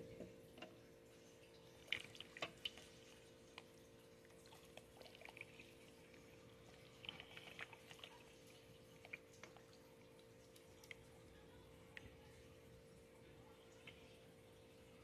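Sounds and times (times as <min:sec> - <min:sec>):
brine sloshing and dripping: 0:00.0 - 0:15.0
faint steady hum: 0:00.0 - 0:15.0.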